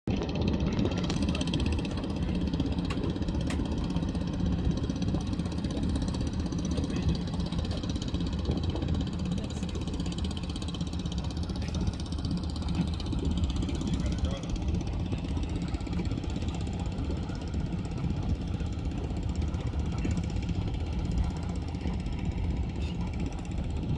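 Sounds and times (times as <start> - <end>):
boat engine running: 0.0 - 23.9
water noise: 0.0 - 23.9
wind: 0.0 - 23.9.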